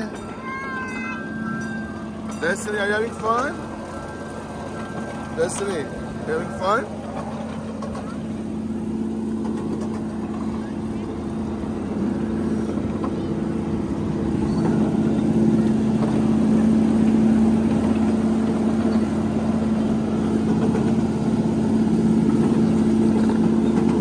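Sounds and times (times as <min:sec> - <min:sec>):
miniature train droning hum: 0:00.0 - 0:24.0.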